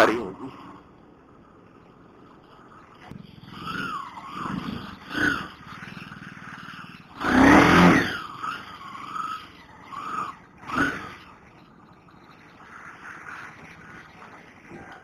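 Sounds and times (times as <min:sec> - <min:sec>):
road traffic from moving motorcycle: 0:00.0 - 0:15.0.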